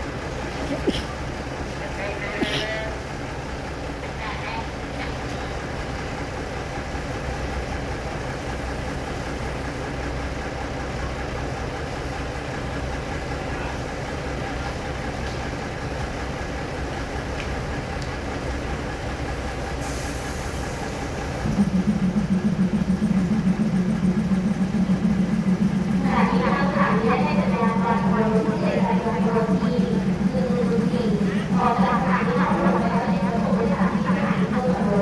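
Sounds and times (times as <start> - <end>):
deep engine rumble: 0.0 - 35.0
train diesel engine running: 0.0 - 35.0.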